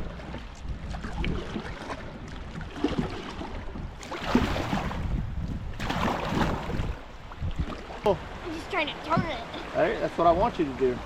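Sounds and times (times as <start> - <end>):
water splashing around a kayak: 0.0 - 11.0.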